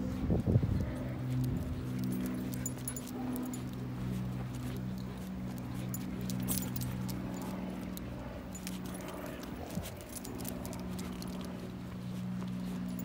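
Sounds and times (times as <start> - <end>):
steady low hum: 0.0 - 13.0
dog collar tags jingling: 0.9 - 11.8, 12.5 - 13.0.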